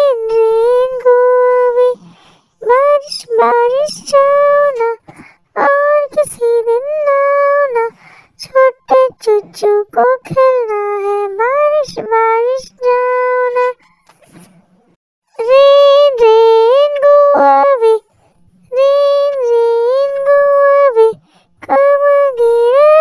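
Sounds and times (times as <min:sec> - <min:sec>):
high-pitched voice singing: 0:00.0 - 0:05.0, 0:05.6 - 0:13.8, 0:15.3 - 0:23.0.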